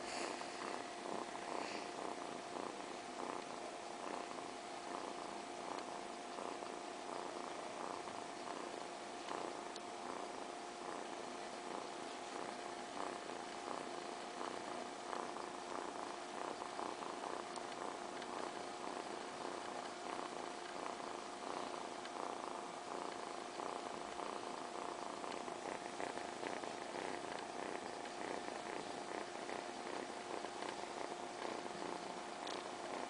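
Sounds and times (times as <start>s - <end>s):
kitten purring: 0.0s - 33.0s.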